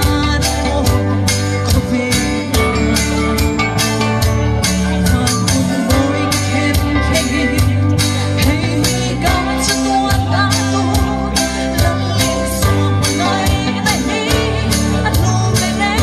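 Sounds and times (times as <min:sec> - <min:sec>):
woman singing into microphone: 0:00.0 - 0:03.8, 0:04.8 - 0:16.0
backing track with drum beat: 0:00.0 - 0:16.0.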